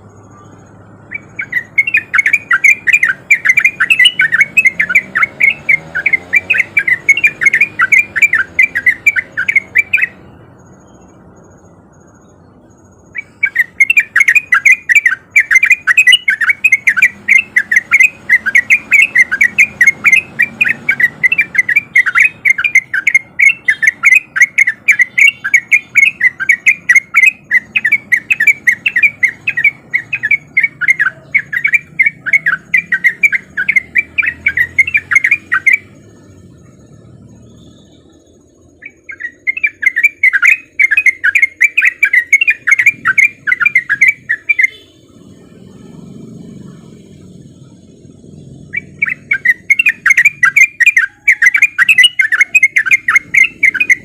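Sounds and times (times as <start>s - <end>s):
bird chirping song: 0.0s - 54.0s.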